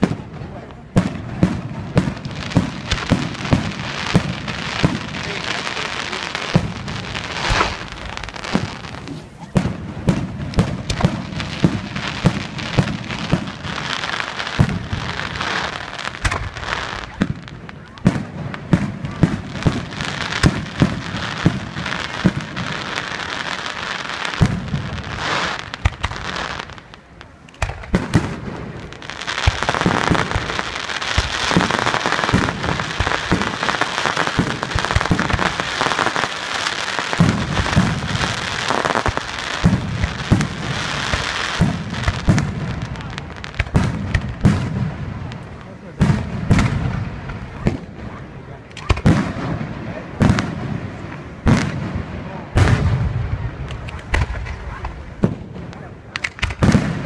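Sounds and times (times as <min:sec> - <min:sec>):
firework shells bursting with bangs: 0:00.0 - 0:57.0
fireworks crackling: 0:00.0 - 0:57.0.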